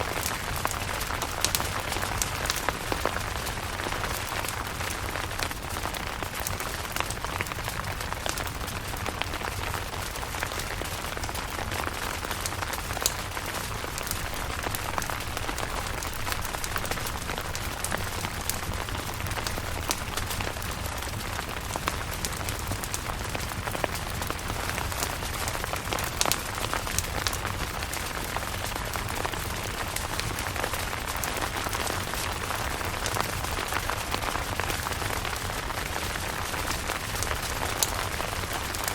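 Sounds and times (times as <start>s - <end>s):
rain on a tent: 0.0s - 38.9s.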